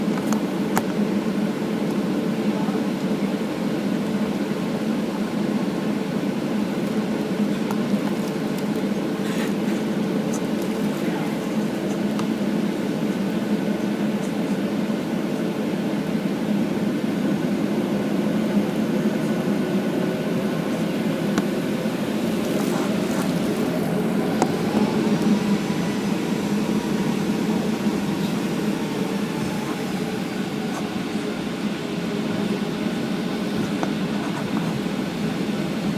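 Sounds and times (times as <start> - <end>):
airliner cabin hum: 0.0 - 35.9.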